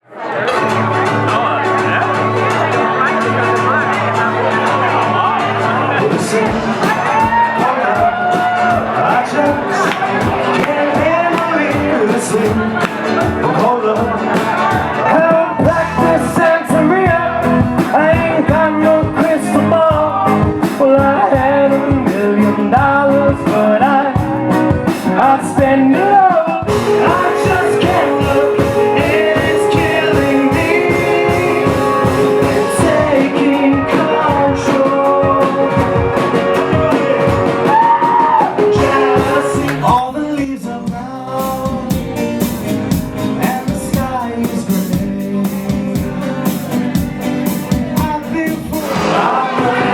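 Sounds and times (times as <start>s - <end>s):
live rock band playing: 0.2s - 49.9s
lead singer singing: 4.3s - 49.9s
drum beat: 5.9s - 49.9s.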